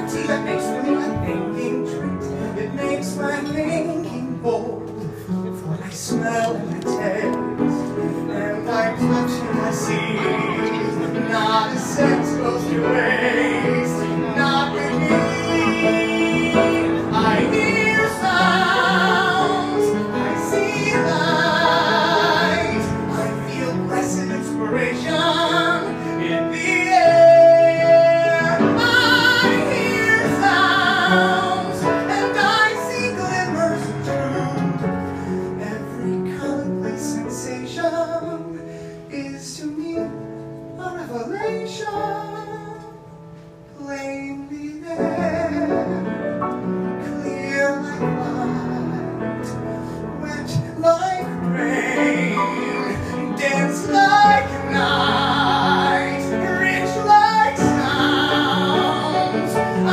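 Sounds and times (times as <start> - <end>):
man singing in high tenor: 0.0 - 59.9
piano accompaniment: 0.0 - 59.9.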